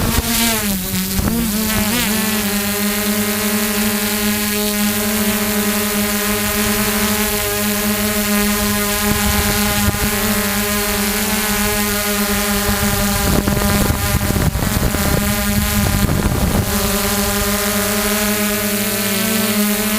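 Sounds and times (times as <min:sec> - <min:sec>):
drone motors whining: 0:00.0 - 0:19.9.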